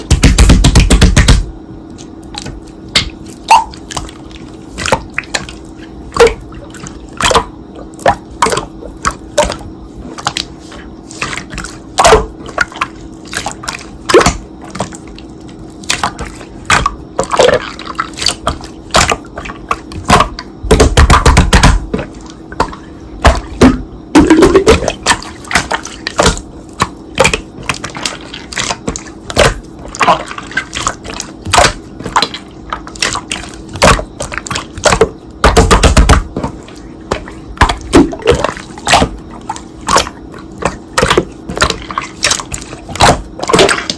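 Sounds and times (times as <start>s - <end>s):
slime squishing by hand: 0.0s - 43.9s.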